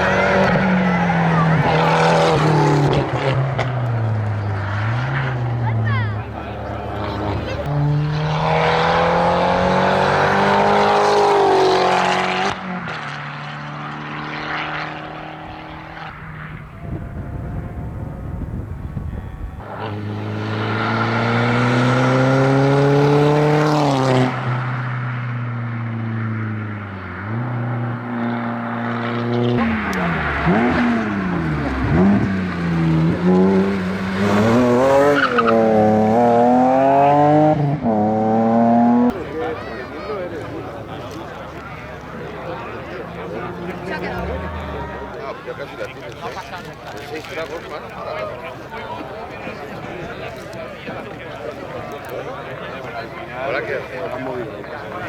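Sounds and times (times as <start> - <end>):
race car engine accelerating: 0.0 - 47.7
distant car engine: 0.0 - 55.0.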